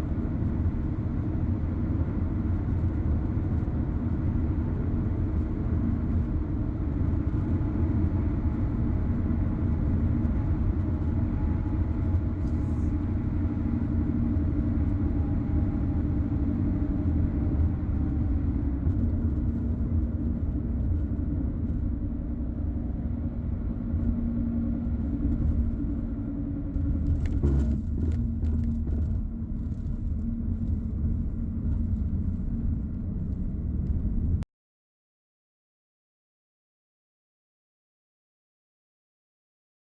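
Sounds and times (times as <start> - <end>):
car engine and tyres rumbling: 0.0 - 34.4.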